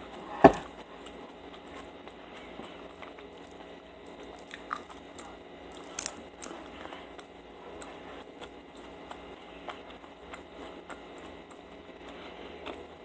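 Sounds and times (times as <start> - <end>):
chewing with wet mouth smacks: 1.0 - 13.0.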